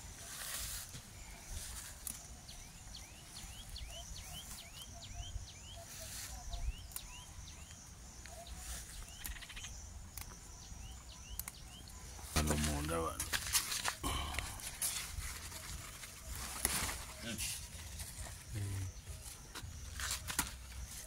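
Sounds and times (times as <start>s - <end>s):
bird chirping: 0.0s - 13.3s, 14.0s - 21.0s.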